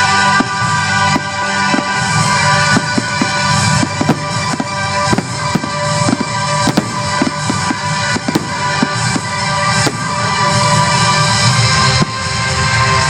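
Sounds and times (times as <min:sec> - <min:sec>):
fireworks bangs: 0:00.0 - 0:13.0
loud show music: 0:00.0 - 0:13.0.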